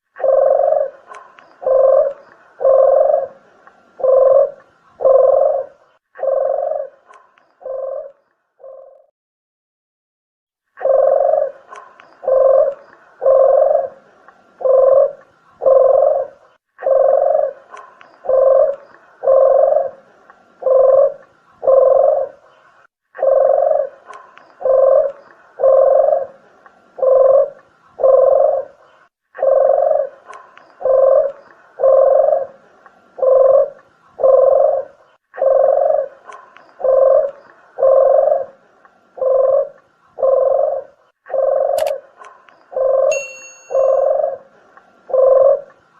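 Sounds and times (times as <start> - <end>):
dove cooing: 0.1 - 9.1, 10.8 - 22.5, 23.2 - 26.4, 27.0 - 38.6, 39.2 - 45.8.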